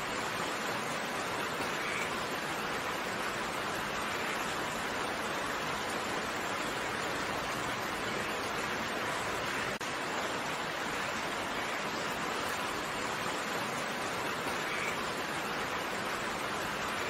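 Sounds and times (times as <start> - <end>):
steady dense rain: 0.0 - 17.0.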